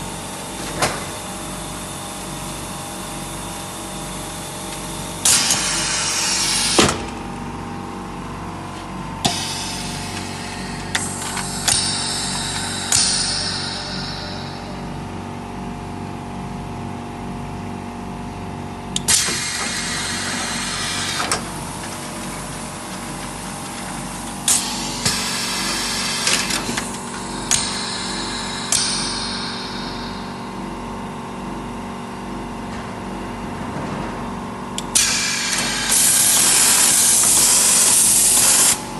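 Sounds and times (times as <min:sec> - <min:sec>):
electric motors humming: 0:00.0 - 0:15.7, 0:18.9 - 0:38.9.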